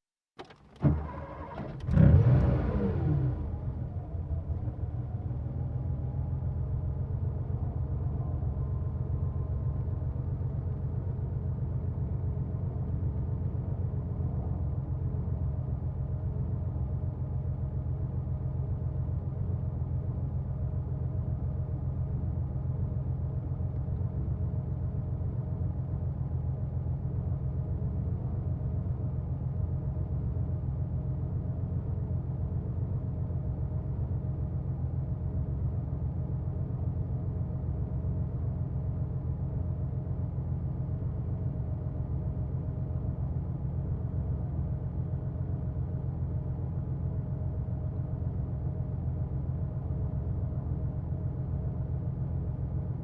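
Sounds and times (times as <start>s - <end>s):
car engine rumbling: 0.4s - 53.0s.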